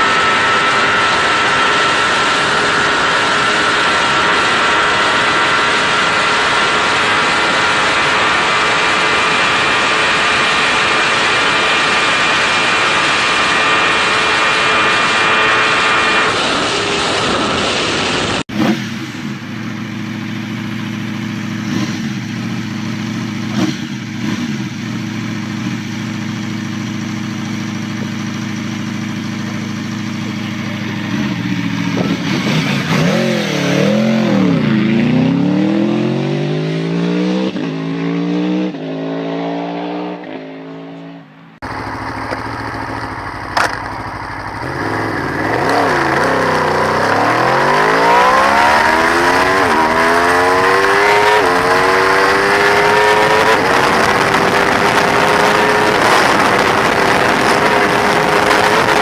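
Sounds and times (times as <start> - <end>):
another engine: 0.0 - 59.0
motorcycle engine revving: 0.0 - 59.0.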